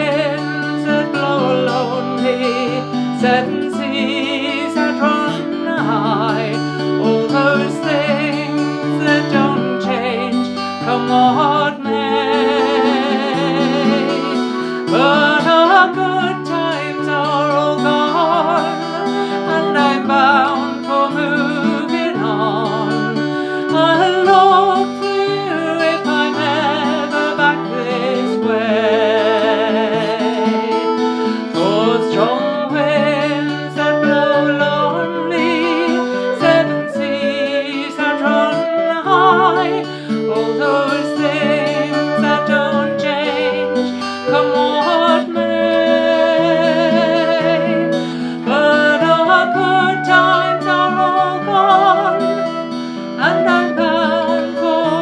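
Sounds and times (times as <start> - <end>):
flute melody: 0.0 - 55.0
person singing: 0.0 - 55.0
plucked guitar: 0.0 - 55.0.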